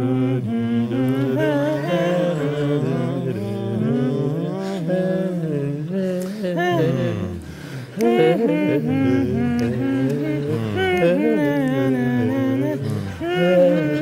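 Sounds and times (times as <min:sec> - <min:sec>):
men singing in harmony a cappella: 0:00.0 - 0:14.0.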